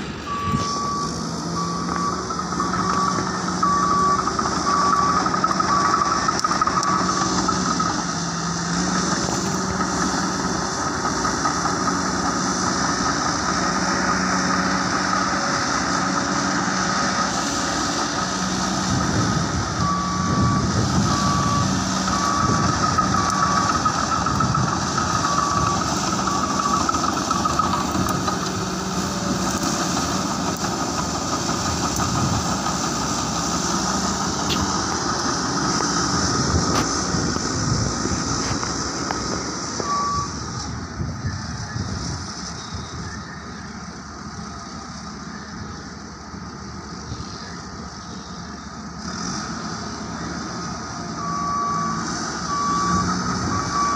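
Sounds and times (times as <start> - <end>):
reversing alarm beeping: 0.0 - 36.8, 39.7 - 46.0, 51.0 - 53.9
heavy diesel engine: 0.0 - 53.9.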